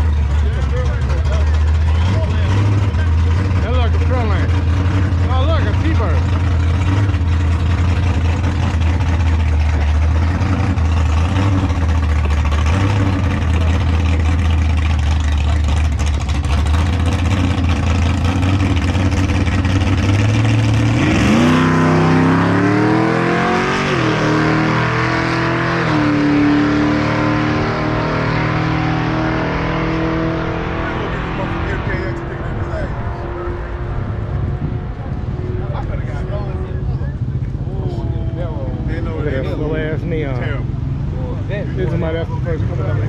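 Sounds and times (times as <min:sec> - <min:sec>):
drag car engine revving: 0:00.0 - 0:43.0.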